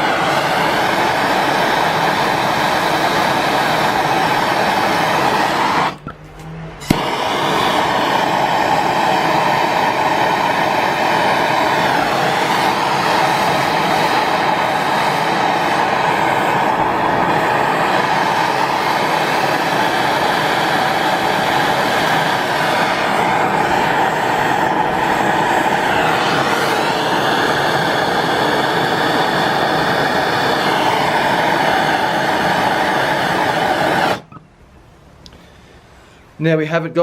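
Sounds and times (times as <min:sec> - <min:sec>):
gas torch flame hissing: 0:00.0 - 0:06.2, 0:06.8 - 0:34.4.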